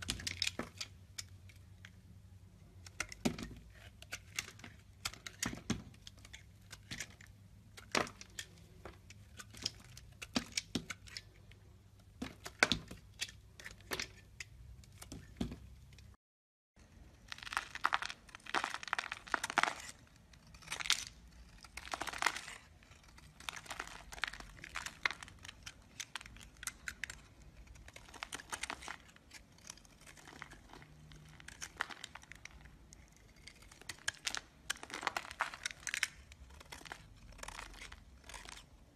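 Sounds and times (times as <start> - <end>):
knife cutting soap with cracks: 0.0 - 16.1, 17.1 - 38.9
blade scraping soap into flakes: 2.7 - 15.4, 17.4 - 38.9.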